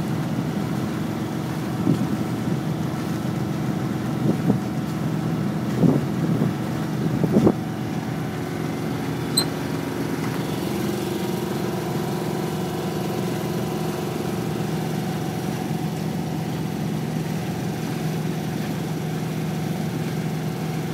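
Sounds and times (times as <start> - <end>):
boat engine droning: 0.0 - 20.9.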